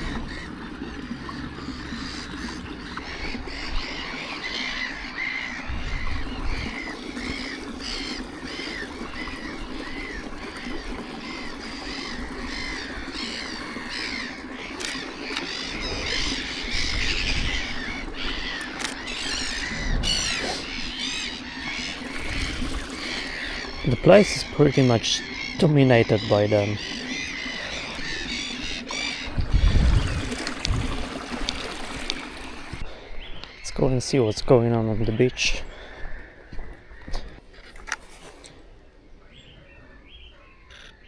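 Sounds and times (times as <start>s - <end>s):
low rumbles: 0.0s - 37.4s
gulls squawking: 0.0s - 41.0s.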